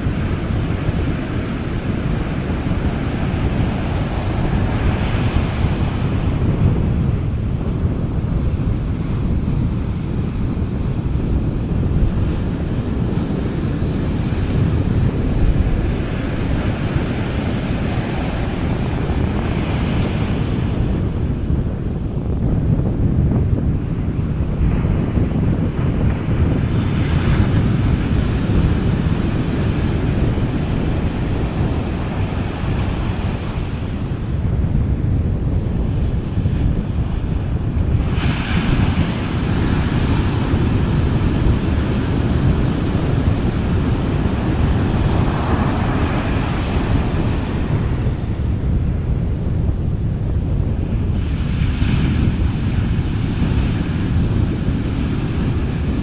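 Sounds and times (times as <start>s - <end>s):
sea waves washing onto beach: 0.0s - 22.0s, 23.7s - 56.0s
low rumble of surf: 0.0s - 56.0s
wind on microphone: 0.0s - 56.0s.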